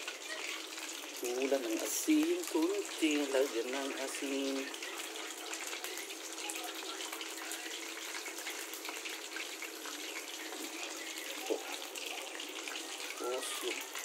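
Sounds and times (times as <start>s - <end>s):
broth boiling in a pot: 0.0s - 14.0s
bubbling and crackling: 0.0s - 14.0s.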